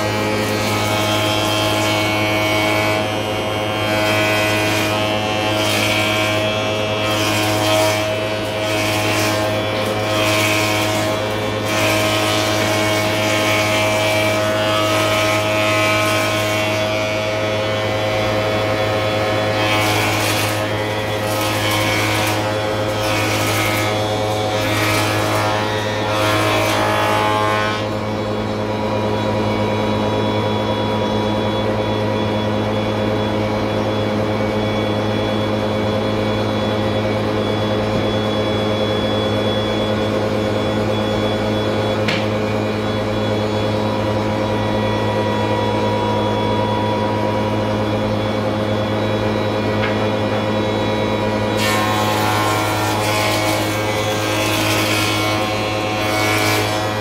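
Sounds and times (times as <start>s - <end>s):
machines humming: 0.0s - 57.0s.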